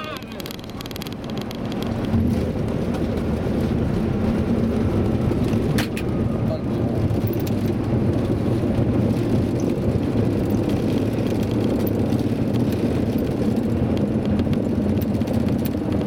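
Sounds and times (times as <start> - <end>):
aircraft engine rumble: 0.0 - 16.0
wheels rolling on runway: 0.0 - 16.0.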